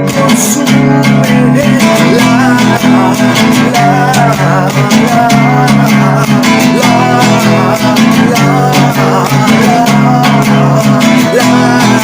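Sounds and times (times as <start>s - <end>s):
steady beat: 0.0s - 12.0s
strummed guitars: 0.0s - 12.0s.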